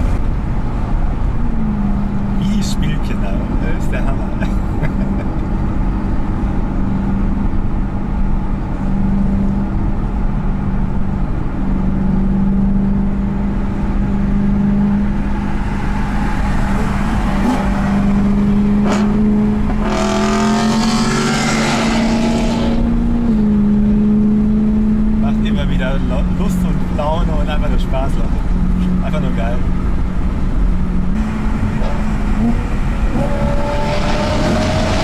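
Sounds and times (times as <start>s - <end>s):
car engine drone from inside: 0.0s - 35.0s.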